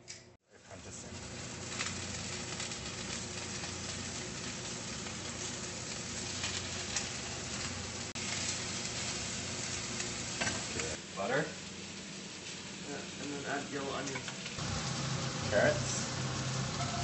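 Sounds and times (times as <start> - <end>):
fat sizzling in frying pan: 0.5 - 17.0.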